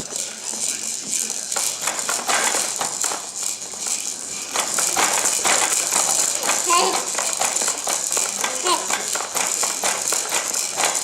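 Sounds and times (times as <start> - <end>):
irregular rattling: 0.0 - 11.0.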